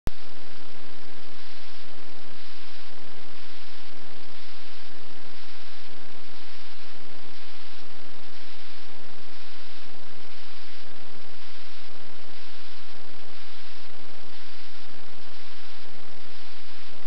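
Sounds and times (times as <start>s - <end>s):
electrical mains hum: 0.1s - 17.0s
steady hiss: 0.1s - 17.0s.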